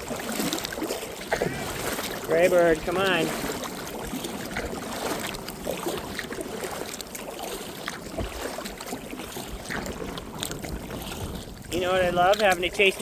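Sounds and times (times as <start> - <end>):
small splashes: 0.0 - 13.0
water lapping and trickling: 0.0 - 13.0
wind rumble on microphone: 0.0 - 13.0.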